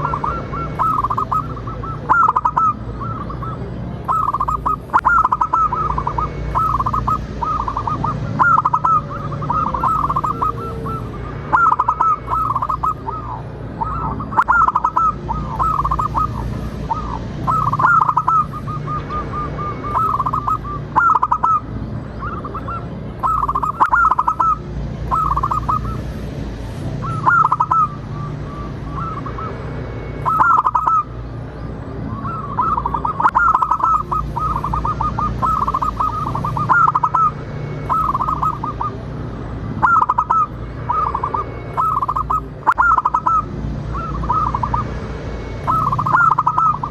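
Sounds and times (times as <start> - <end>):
dove cooing: 0.0 - 26.1, 26.9 - 29.6, 30.2 - 31.1, 32.1 - 39.1, 39.7 - 45.0, 45.6 - 46.9.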